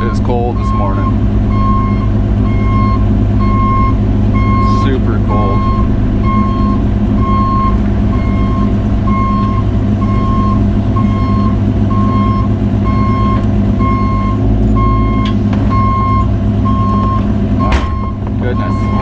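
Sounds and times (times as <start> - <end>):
diesel engine running under load: 0.0 - 19.0
travel alarm beeping: 0.0 - 19.0.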